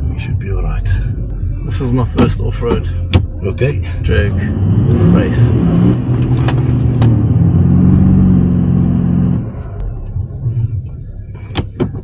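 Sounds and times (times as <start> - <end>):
diesel engine rumble from cabin: 0.0 - 12.0.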